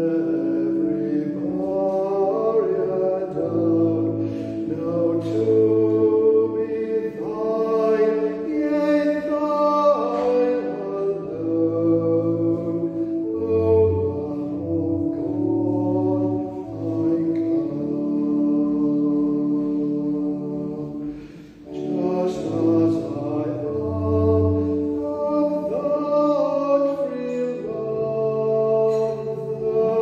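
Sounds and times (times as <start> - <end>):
church organ playing hymn: 0.0 - 30.0.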